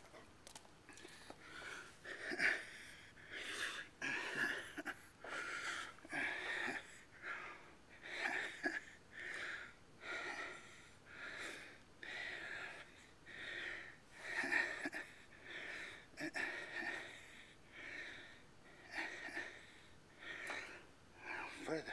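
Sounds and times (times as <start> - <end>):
man breathing hard: 0.9 - 21.9.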